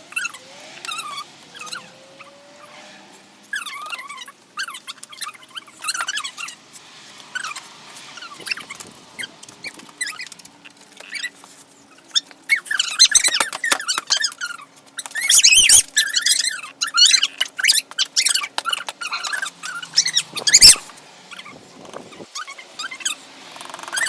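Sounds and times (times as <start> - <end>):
high-pitched squeaks: 0.1 - 6.6, 7.3 - 23.2.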